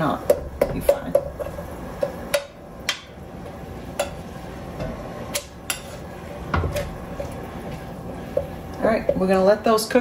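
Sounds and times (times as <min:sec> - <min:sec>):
water boiling: 0:00.0 - 0:10.0.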